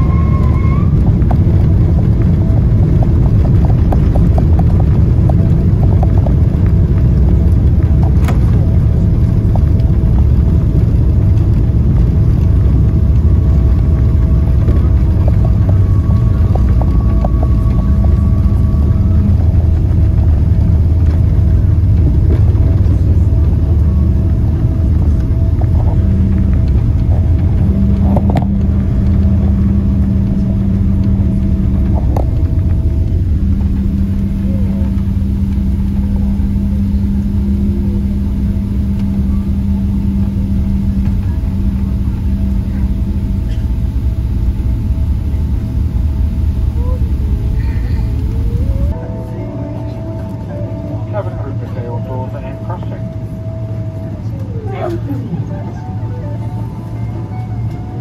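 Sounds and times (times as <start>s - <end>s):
airplane engines and wheels rumbling: 0.0s - 58.0s.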